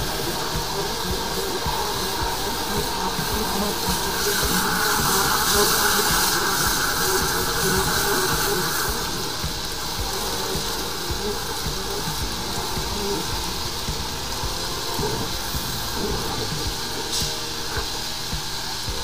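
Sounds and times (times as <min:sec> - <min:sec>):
water jet hissing: 0:00.0 - 0:19.0.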